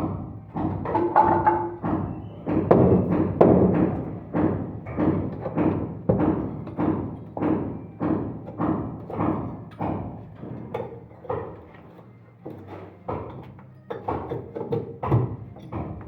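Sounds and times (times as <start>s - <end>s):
tool knocking on wood: 0.0s - 11.8s, 12.5s - 16.0s.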